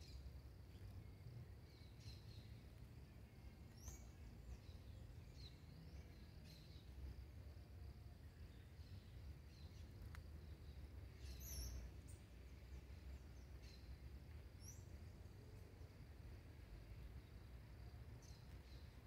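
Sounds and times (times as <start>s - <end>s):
bird chirping: 0.0s - 7.2s, 8.2s - 16.0s, 17.2s - 19.0s
insect drone: 0.0s - 19.0s.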